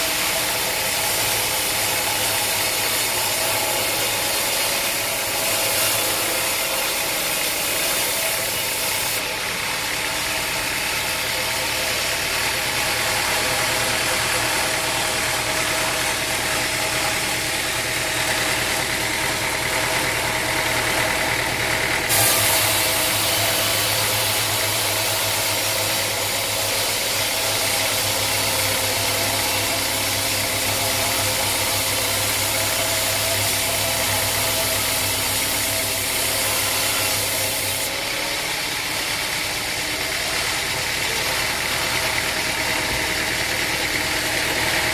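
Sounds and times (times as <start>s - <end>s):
high machine hiss: 0.0s - 44.9s
sawmill machinery humming: 0.0s - 44.9s.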